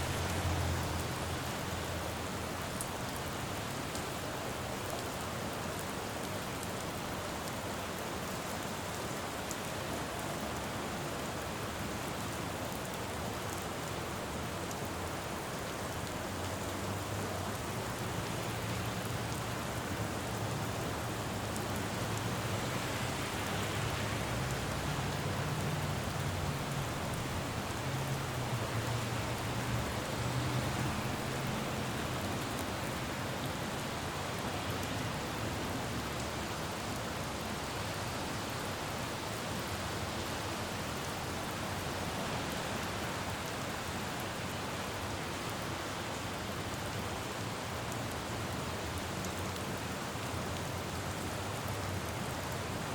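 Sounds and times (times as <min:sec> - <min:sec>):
rain falling on a road: 0:00.0 - 0:52.9.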